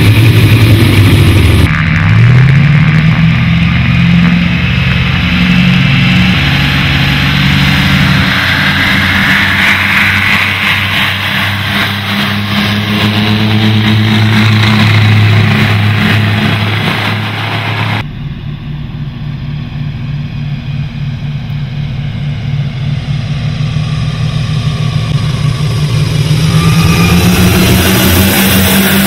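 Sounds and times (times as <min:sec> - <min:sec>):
propeller plane engines at high power: 0:00.0 - 0:29.0.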